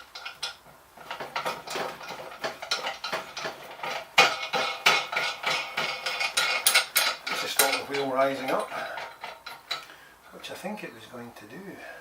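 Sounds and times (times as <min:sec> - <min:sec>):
metal tools clinking and knocking: 0:00.0 - 0:09.9.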